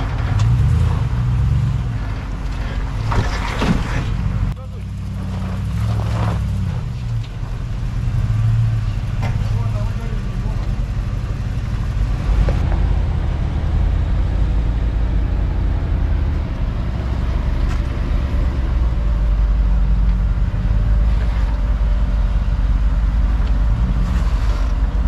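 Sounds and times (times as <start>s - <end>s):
car engine deep rumble: 0.0s - 25.0s.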